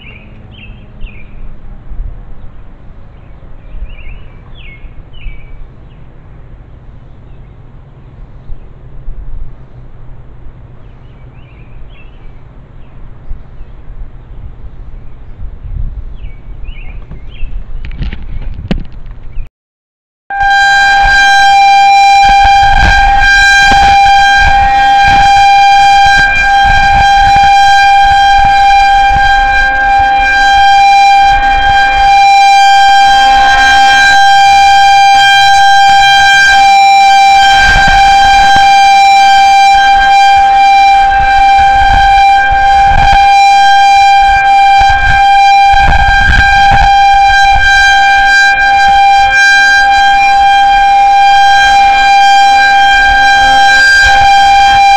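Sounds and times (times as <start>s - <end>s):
loud steady warning siren: 0.0s - 17.0s, 20.3s - 54.9s.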